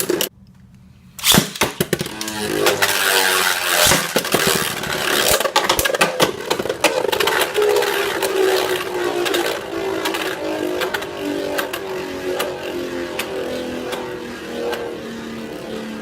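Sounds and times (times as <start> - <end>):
spinning tops clashing clicks: 1.2 - 16.0
spinning tops whirring: 1.2 - 16.0.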